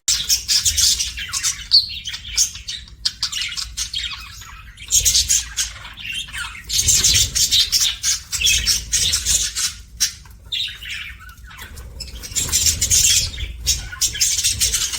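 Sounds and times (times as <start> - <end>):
budgerigars chirping and chattering: 0.1 - 14.9.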